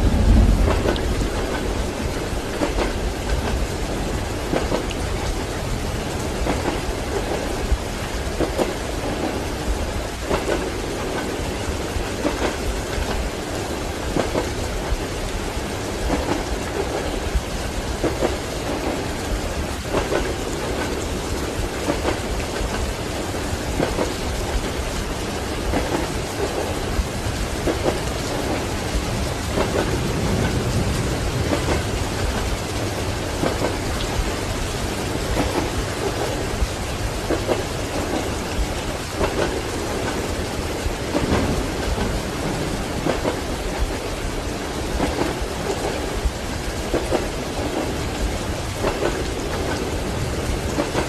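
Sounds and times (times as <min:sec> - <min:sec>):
steady rain: 0:00.0 - 0:51.0
thunder rumble: 0:00.0 - 0:51.0
train wheels clacking on rail joints: 0:00.1 - 0:51.0.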